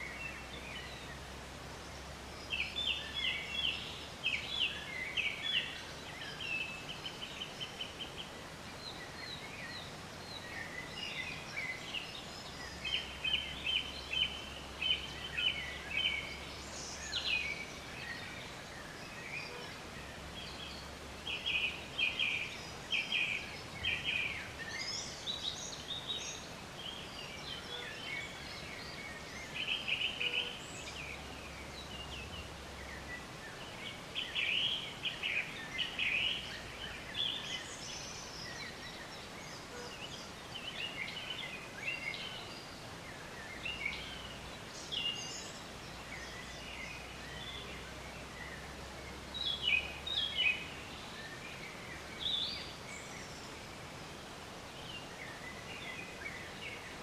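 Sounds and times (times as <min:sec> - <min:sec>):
wild birds calling: 0:00.0 - 0:57.0.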